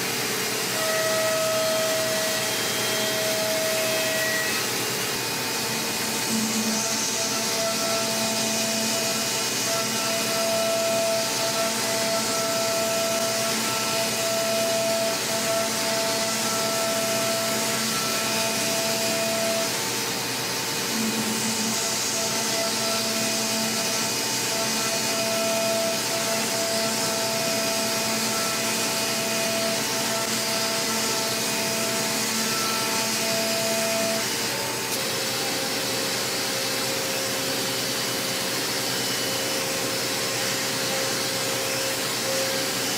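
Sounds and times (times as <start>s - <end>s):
milling machine whine: 0.0s - 42.9s.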